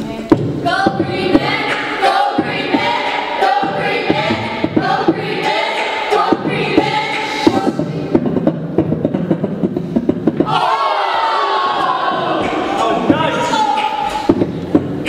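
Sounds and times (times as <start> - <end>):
voices singing together: 0.0 - 8.2, 10.4 - 14.9
sharp beats: 0.1 - 15.0.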